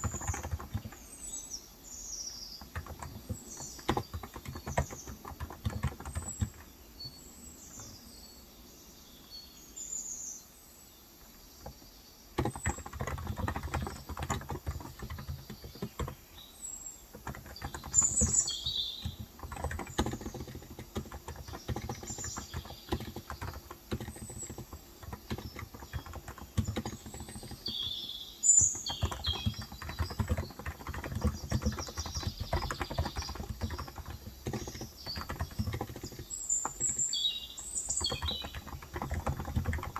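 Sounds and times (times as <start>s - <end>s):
keyboard typing: 0.0s - 1.3s, 2.6s - 6.8s, 12.4s - 16.3s, 17.1s - 39.9s
small birds chirping: 0.0s - 39.9s.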